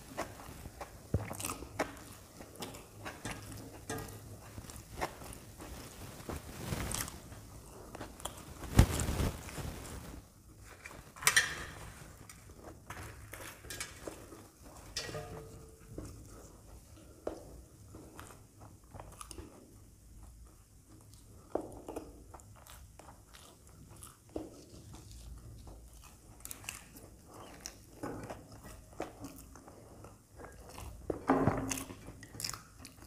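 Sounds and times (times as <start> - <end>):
biting and chewing bread: 0.0 - 9.6, 11.8 - 15.0, 15.8 - 33.0.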